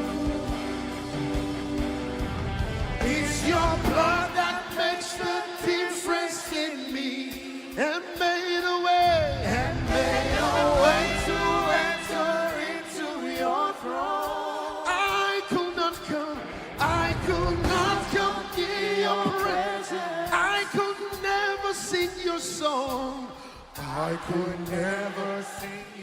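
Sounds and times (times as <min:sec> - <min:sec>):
gospel worship singing: 0:00.0 - 0:26.0.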